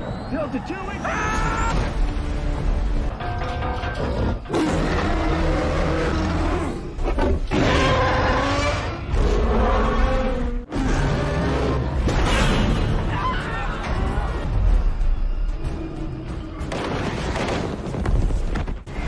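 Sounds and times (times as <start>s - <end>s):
dramatic music: 1.2s - 19.0s.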